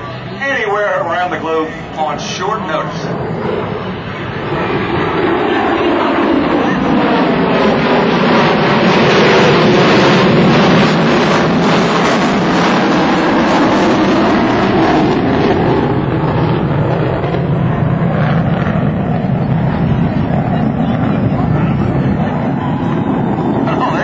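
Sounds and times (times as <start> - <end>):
jet bomber flying past: 0.0 - 24.0.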